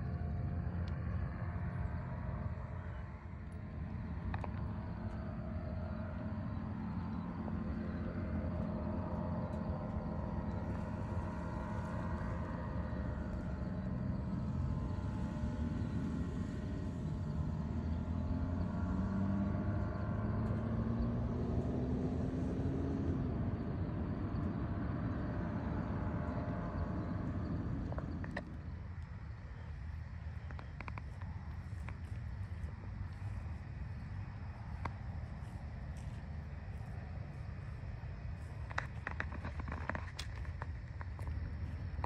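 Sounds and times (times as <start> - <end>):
paramotor engine droning overhead: 0.0 - 42.0.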